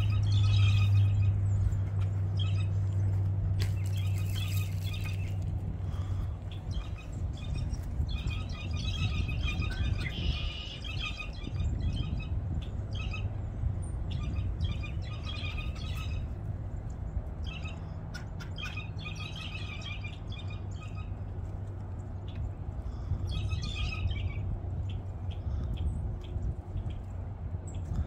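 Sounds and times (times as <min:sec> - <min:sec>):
low steady hum: 0:00.0 - 0:28.0
songbirds chirping: 0:00.0 - 0:28.0.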